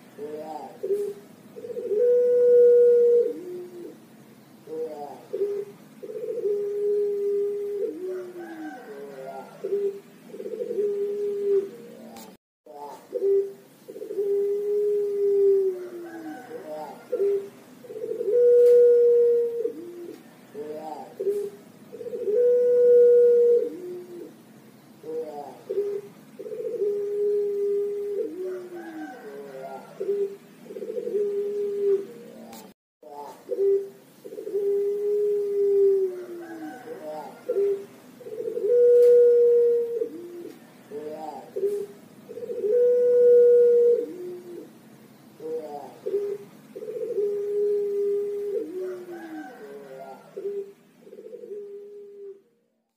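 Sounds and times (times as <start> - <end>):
dove cooing: 0.0 - 52.8.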